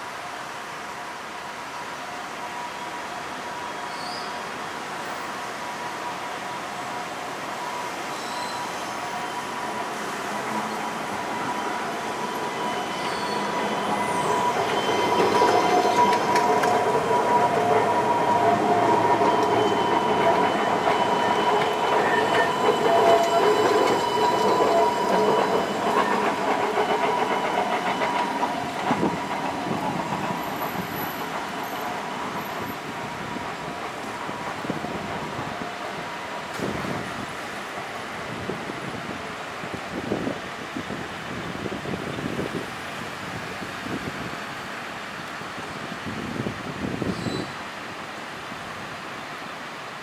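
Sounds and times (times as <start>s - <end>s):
wheels rumbling on rail: 0.0s - 50.0s
tram electric drive whine: 0.3s - 47.1s.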